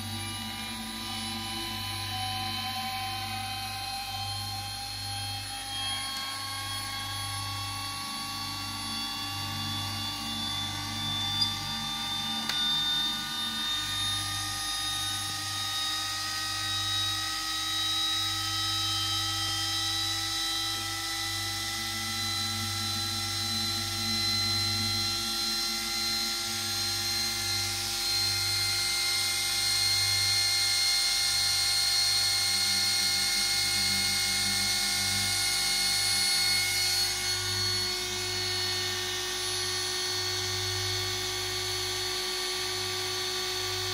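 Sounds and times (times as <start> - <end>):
electric gyro high whine rising: 0.0 - 43.9
steady low hum: 0.0 - 43.9.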